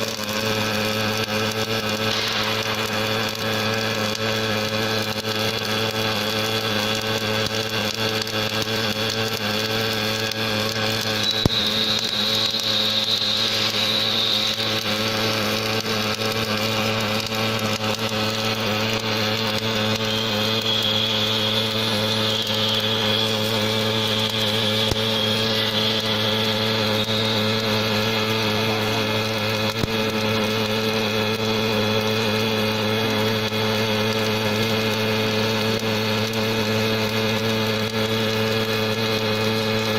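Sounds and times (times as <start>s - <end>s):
high machine whine: 0.0s - 39.9s
welding machine electrical hum: 0.0s - 39.9s.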